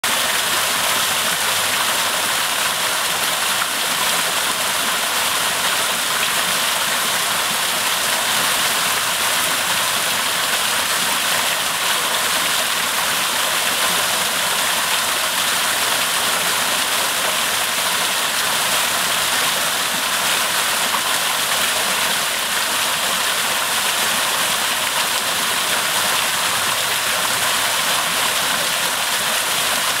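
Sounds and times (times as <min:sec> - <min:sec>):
small waterfall splashing into pool: 0:00.0 - 0:30.0.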